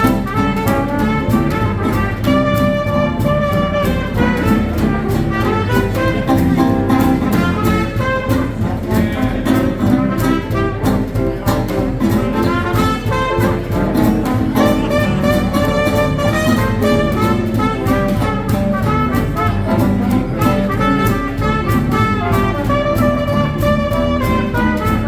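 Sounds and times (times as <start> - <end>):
swing jazz band playing: 0.0 - 25.0.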